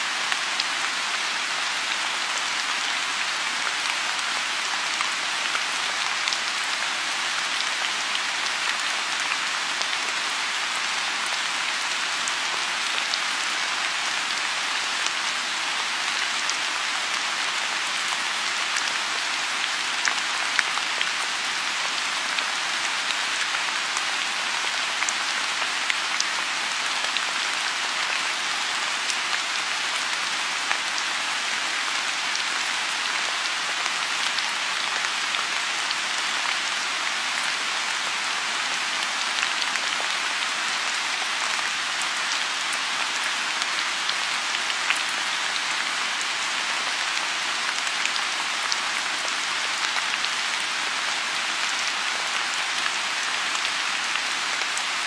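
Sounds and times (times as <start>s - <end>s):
rain falling on a pond: 0.0s - 55.0s.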